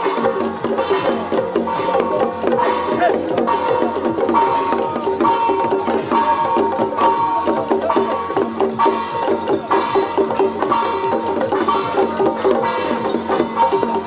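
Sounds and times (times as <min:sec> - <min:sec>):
temple percussion music: 0:00.0 - 0:14.0.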